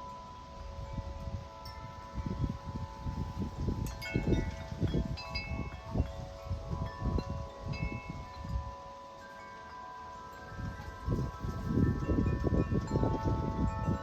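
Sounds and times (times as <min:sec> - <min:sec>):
deep wind chime ringing: 0:00.0 - 0:14.0
wind buffeting microphone: 0:00.0 - 0:14.0.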